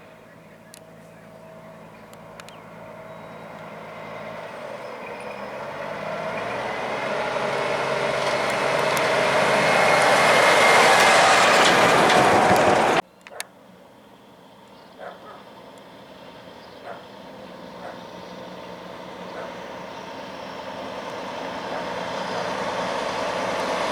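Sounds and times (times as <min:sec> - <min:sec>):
heavy truck approaching: 0:00.0 - 0:23.9.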